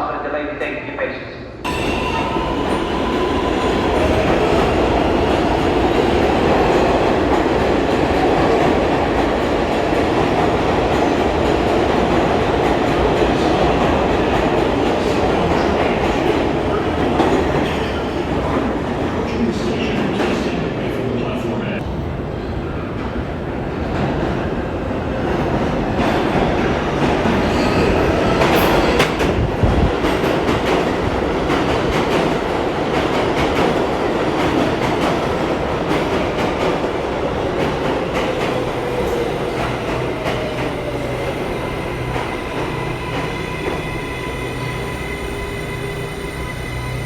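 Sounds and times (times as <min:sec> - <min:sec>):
subway train rumbling on rails: 0:00.0 - 0:47.0.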